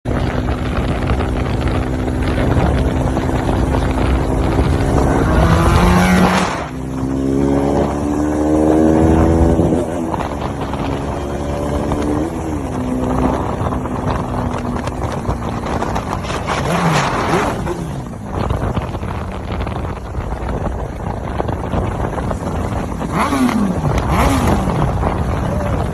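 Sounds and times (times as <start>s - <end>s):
motorcycle engine accelerating: 0.0s - 25.9s
wind on microphone: 0.1s - 25.9s.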